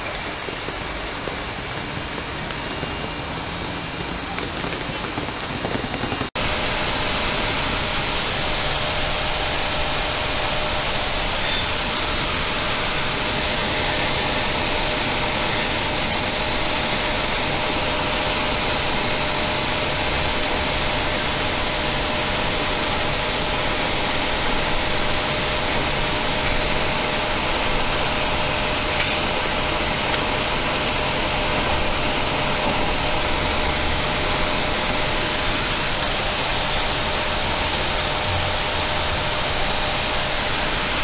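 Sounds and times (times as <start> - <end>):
train rumbling on rails: 0.0 - 41.0.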